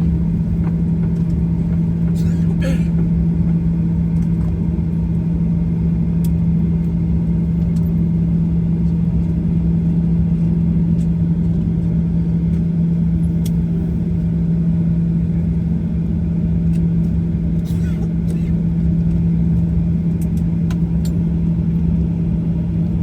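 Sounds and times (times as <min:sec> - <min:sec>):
airplane cabin drone: 0:00.0 - 0:23.0.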